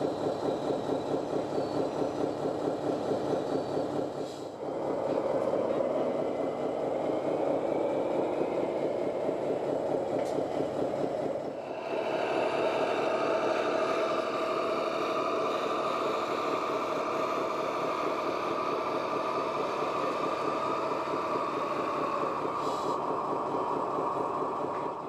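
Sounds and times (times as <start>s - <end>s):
engine-like chugging: 0.0s - 25.0s
steady machine running sound: 0.0s - 25.0s.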